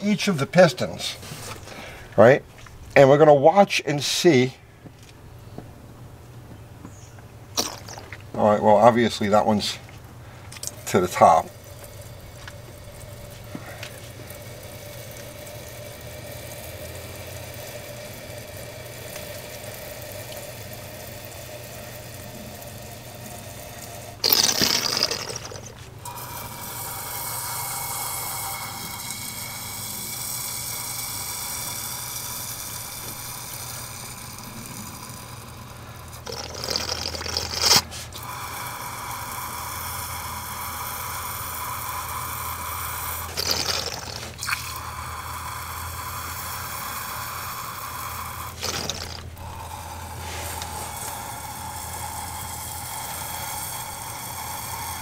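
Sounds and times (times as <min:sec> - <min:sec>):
liquid squirting and splashing: 0:07.5 - 0:08.3, 0:09.8 - 0:55.0
spraying burst: 0:10.6 - 0:55.0.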